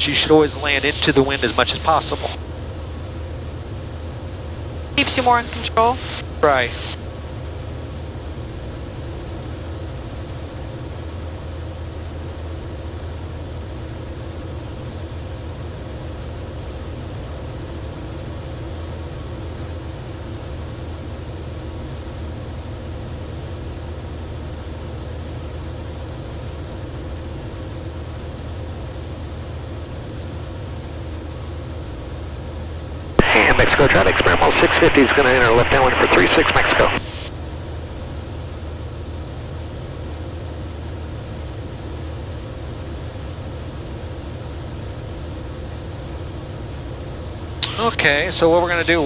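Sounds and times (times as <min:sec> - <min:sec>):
light aircraft engine drone: 0:00.0 - 0:49.0.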